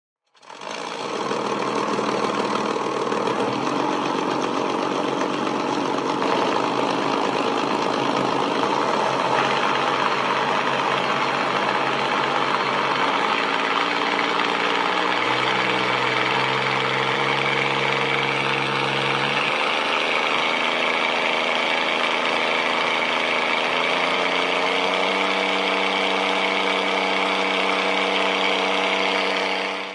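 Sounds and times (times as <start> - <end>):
light aircraft engine running: 0.4 - 29.9.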